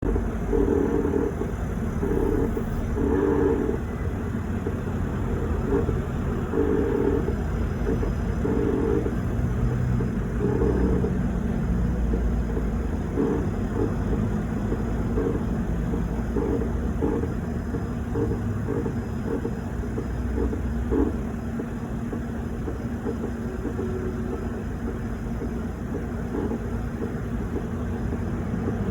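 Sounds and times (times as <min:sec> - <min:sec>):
refrigerator compressor humming: 0:00.0 - 0:28.9.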